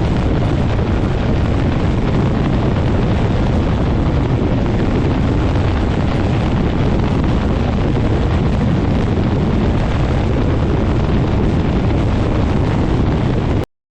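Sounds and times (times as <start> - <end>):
small plane engine and propeller: 0.0 - 13.6
wind buffeting microphone: 0.0 - 13.6.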